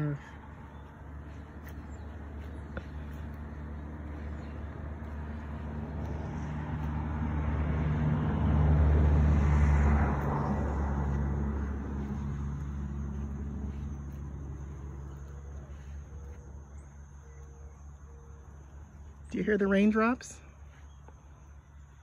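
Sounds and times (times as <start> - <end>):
vehicle engine passing by: 0.0 - 22.0.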